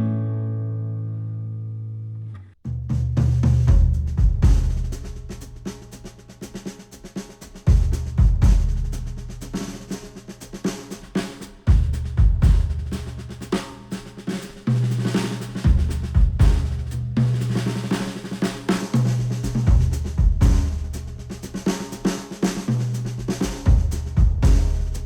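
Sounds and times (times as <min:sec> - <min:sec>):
instrumental music with drum kit: 0:02.7 - 0:25.0.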